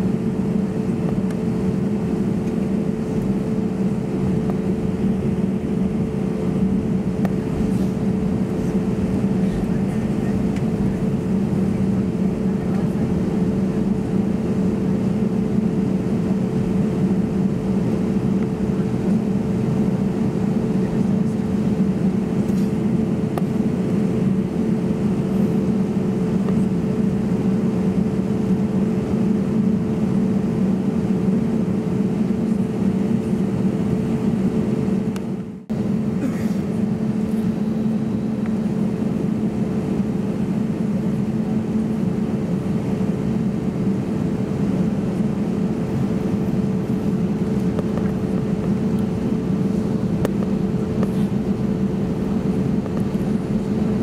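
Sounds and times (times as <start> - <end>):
airplane cabin engine hum: 0.0 - 54.0.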